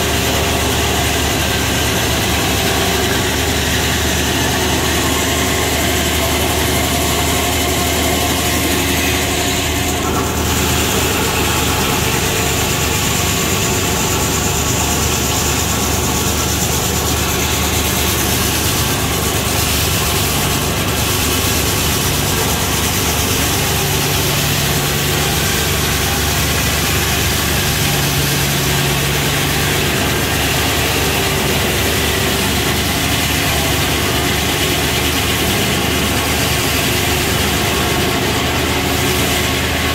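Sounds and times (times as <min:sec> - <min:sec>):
circular saw cutting log: 0:00.0 - 0:39.9.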